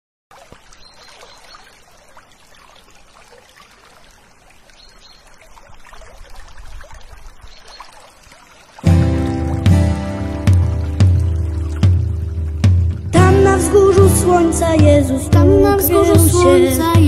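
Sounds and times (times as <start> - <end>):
stream trickling and bubbling: 0.3 - 17.0.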